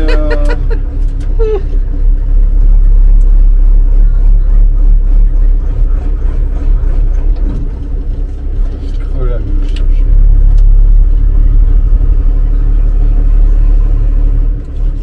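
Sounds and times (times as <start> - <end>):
diesel engine idling low: 0.0 - 15.0.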